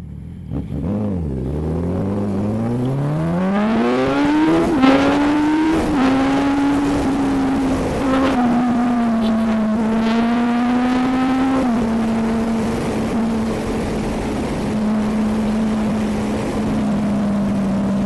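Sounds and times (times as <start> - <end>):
motorcycle accelerating: 0.0 - 18.0.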